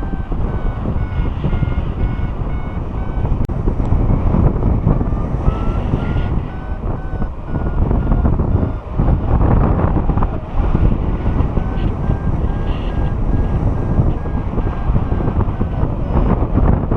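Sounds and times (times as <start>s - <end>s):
short electronic beeps: 0.0s - 3.4s, 5.4s - 16.9s
wind buffeting microphone: 0.0s - 16.9s.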